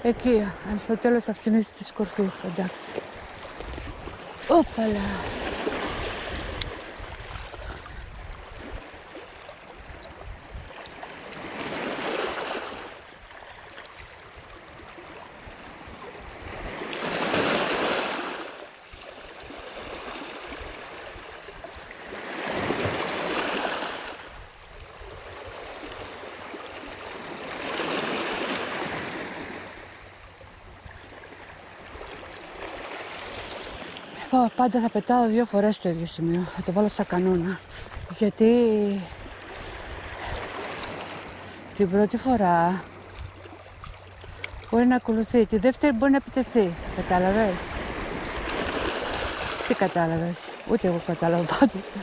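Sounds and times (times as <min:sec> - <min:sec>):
sea waves on pebble beach: 0:01.9 - 0:30.3, 0:31.1 - 0:44.8, 0:45.8 - 0:52.0.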